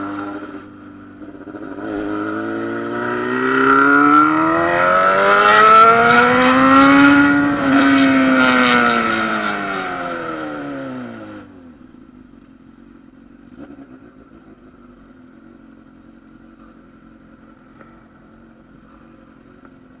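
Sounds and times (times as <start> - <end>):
motorcycle engine revs falling: 0.0 - 20.0.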